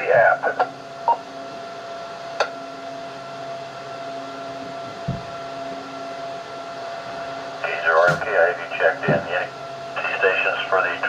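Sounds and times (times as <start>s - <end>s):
electrical hum and hiss: 0.0s - 11.0s
faint high whine: 0.0s - 11.0s.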